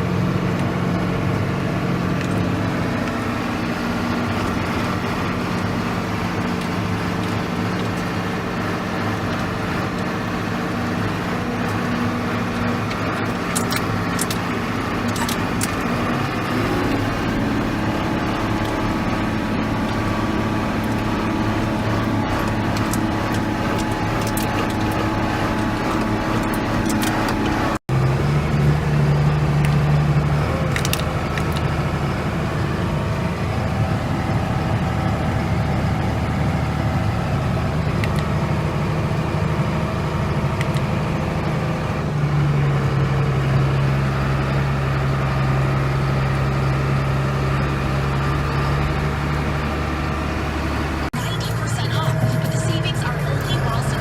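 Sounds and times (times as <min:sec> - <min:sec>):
diesel engine running: 0:00.0 - 0:54.0
steady engine sound: 0:00.0 - 0:54.0.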